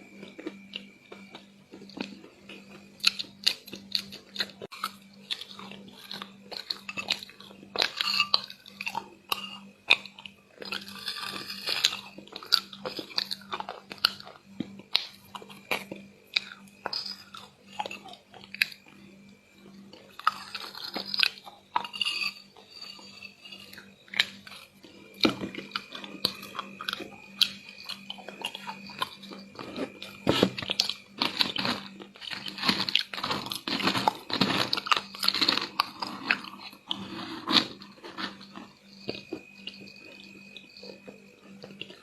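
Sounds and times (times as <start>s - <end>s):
chewing crispy chocolate: 0.0s - 42.0s.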